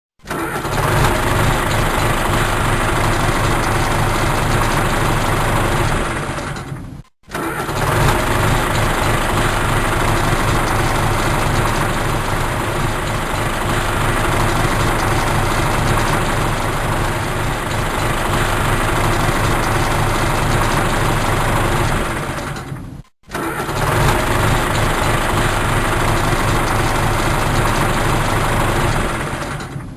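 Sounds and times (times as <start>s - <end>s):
tractor engine running: 0.2s - 29.9s.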